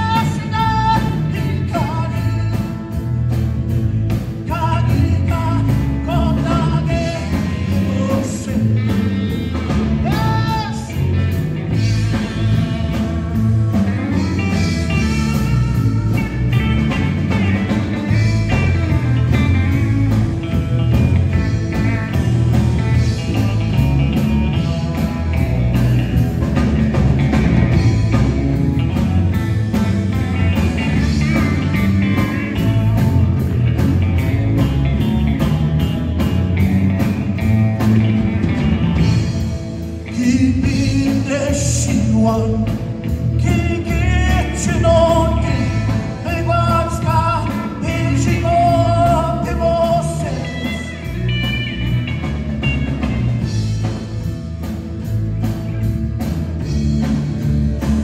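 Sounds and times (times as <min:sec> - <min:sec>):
bass guitar: 0:00.0 - 0:58.0
electric guitar: 0:00.0 - 0:58.0.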